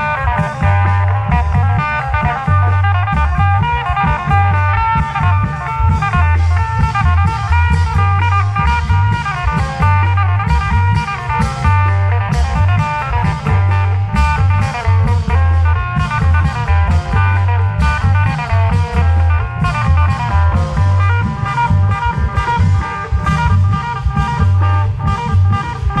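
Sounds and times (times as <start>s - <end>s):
heavy drum beat: 0.0s - 26.0s
quick stepping melody: 0.0s - 26.0s.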